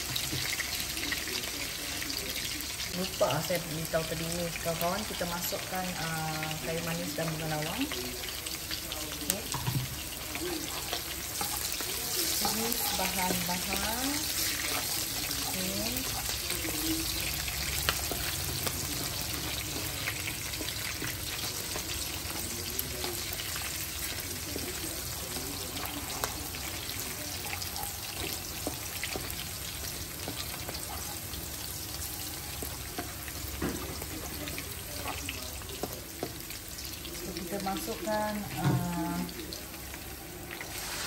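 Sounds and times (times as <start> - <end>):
shallots sizzling in hot oil: 0.0 - 41.0.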